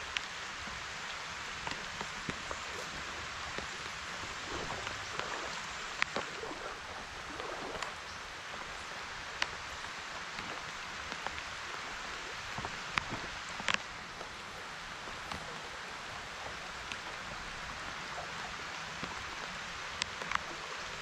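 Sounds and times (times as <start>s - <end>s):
light rain on water: 0.0s - 21.0s
sharp ticks of raindrops: 0.0s - 21.0s.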